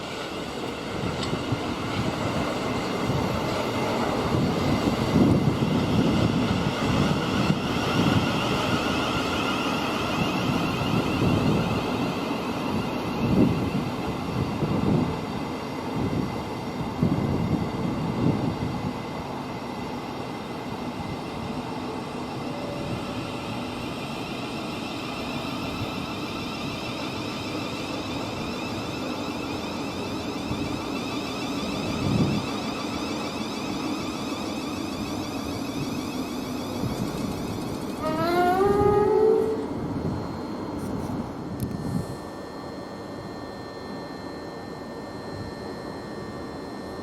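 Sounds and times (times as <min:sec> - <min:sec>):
train rumble and hiss: 0:00.0 - 0:43.5.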